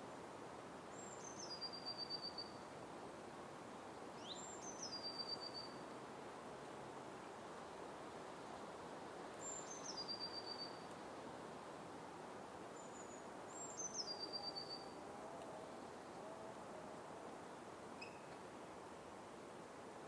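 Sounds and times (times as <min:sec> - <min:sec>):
forest ambience hiss: 0:00.0 - 0:20.0.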